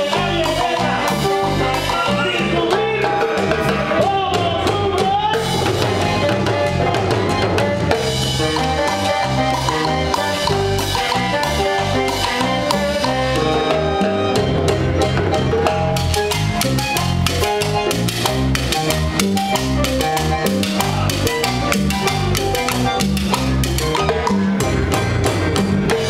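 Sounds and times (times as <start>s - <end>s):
latin dance band playing: 0.0s - 26.0s.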